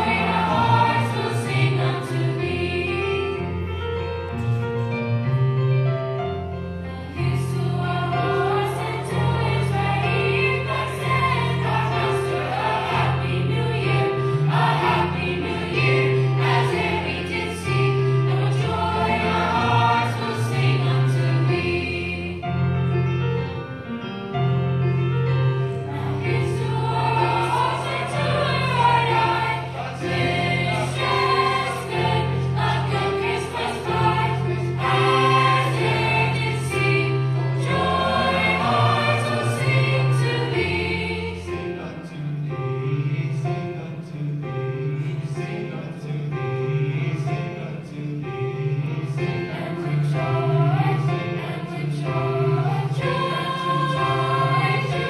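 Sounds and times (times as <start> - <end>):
school chorus singing in parts: 0.0 - 3.7, 7.0 - 22.7, 25.7 - 55.0.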